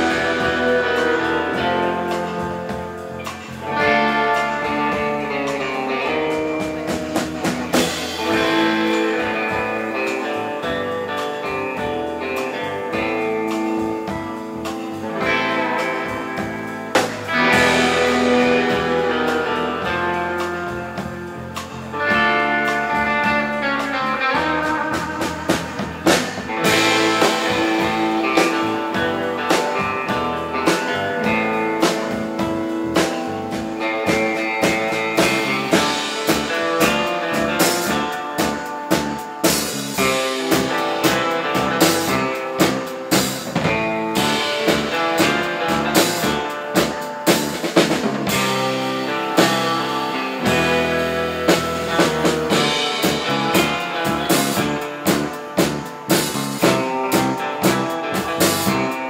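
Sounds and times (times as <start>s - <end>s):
bass guitar: 0.0s - 59.0s
rock drum beat: 0.0s - 59.0s
twangy lead electric guitar: 0.0s - 59.0s.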